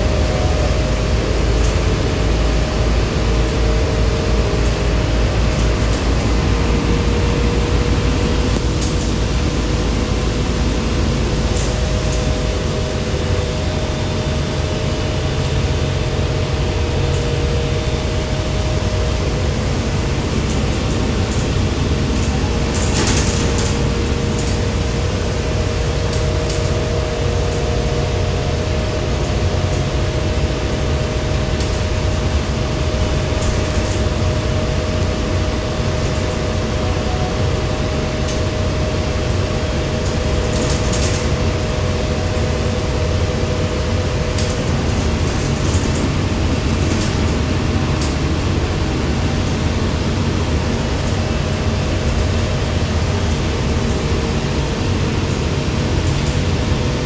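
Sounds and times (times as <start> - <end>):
bus engine and road rumble: 0.0 - 57.0
constant whine: 0.0 - 57.0.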